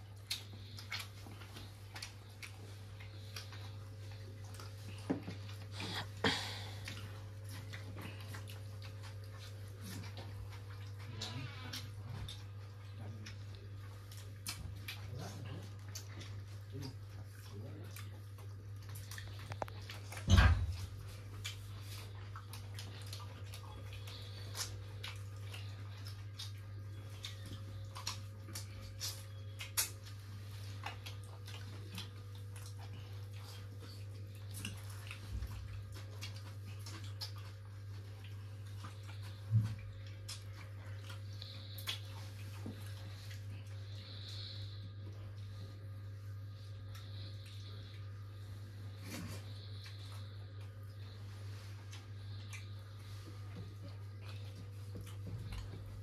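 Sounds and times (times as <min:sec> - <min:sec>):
chewing clicks and smacks: 0:00.0 - 0:05.8, 0:06.8 - 0:43.9, 0:51.8 - 0:56.0
steady low hum: 0:00.0 - 0:56.0.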